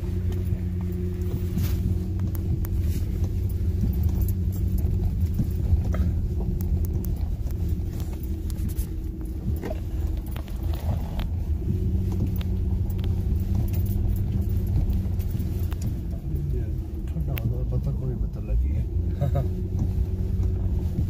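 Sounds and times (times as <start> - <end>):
car engine rumble inside cab: 0.0 - 21.0.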